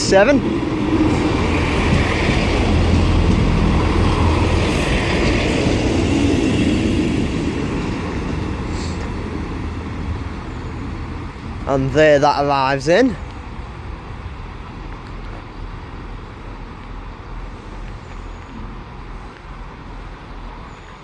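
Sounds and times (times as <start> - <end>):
diesel train rumble and wheel noise: 0.0 - 21.0.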